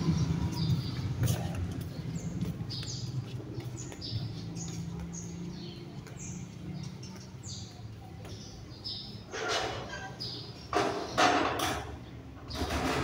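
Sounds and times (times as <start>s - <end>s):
bird chirping: 0.0s - 11.3s.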